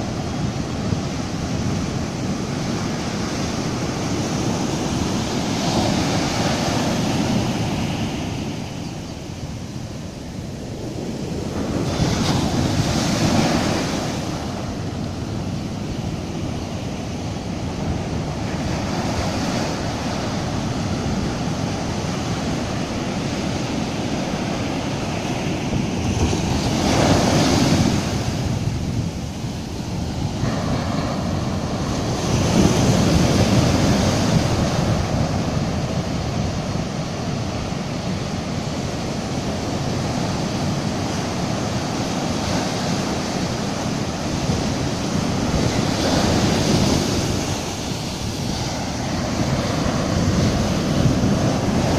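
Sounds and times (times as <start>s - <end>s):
waves breaking on a sandy beach: 0.0s - 51.9s.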